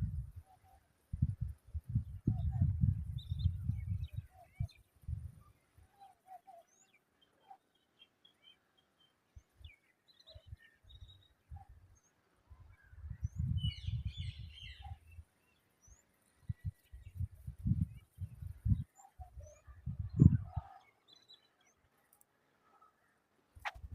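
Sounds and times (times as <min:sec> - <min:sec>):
birds chirping and chattering: 0:01.8 - 0:23.9.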